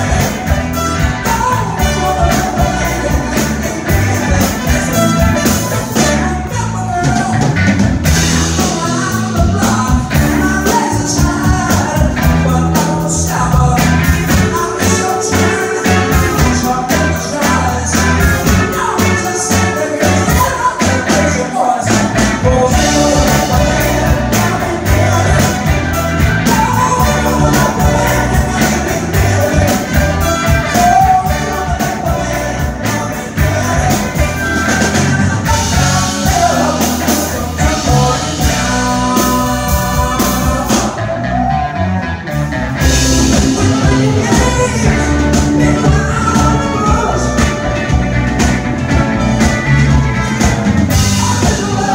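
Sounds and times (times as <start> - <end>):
bass and drums beat: 0.0 - 51.9
electric guitar: 0.0 - 51.9
male singer belting: 0.0 - 51.9.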